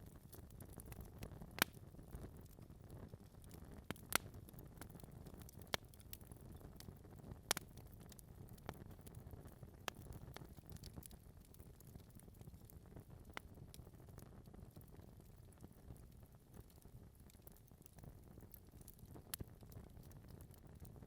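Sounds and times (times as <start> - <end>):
logs popping and crackling: 0.0 - 21.0.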